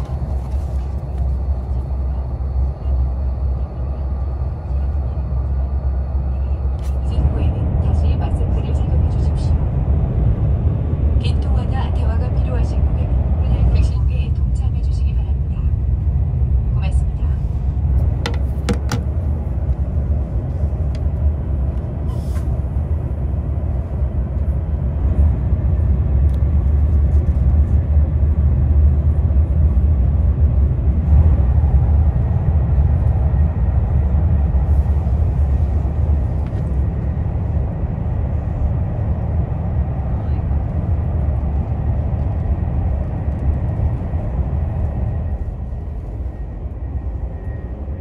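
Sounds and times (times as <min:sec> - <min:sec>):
train rumble inside cabin: 0:00.0 - 0:48.0.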